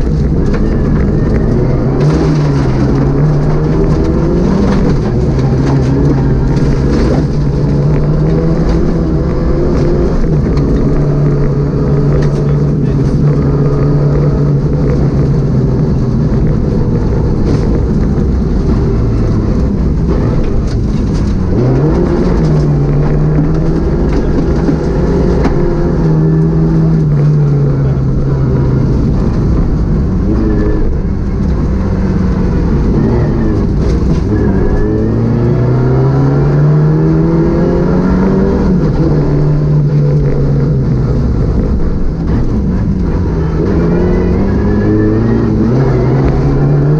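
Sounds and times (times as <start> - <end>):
rally car engine accelerating: 0.0 - 46.9
road and tyre noise: 0.0 - 46.9.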